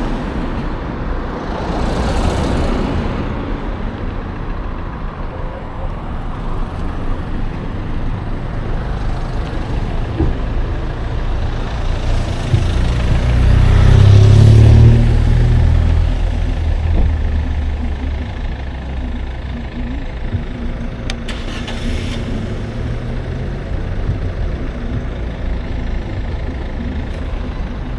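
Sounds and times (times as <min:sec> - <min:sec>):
low rumble with steady hum: 0:00.0 - 0:27.9
road and traffic noise: 0:00.0 - 0:27.9.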